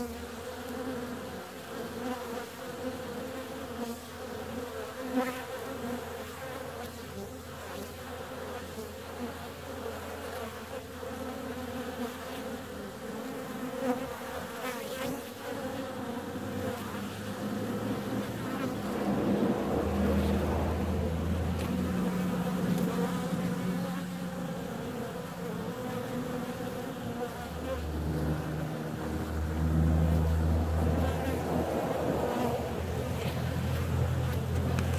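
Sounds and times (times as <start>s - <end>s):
honeybees buzzing: 0.0s - 34.9s
single bees droning close past: 0.0s - 34.9s.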